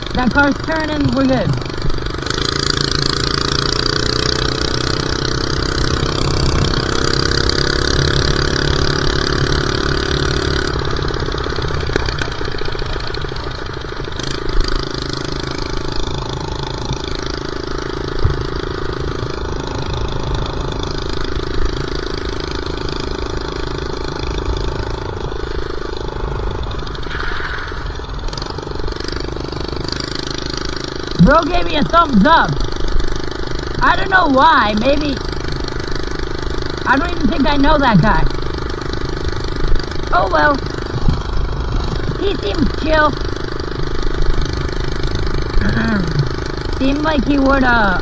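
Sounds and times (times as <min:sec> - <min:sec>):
minibike engine running: 0:00.0 - 0:48.0.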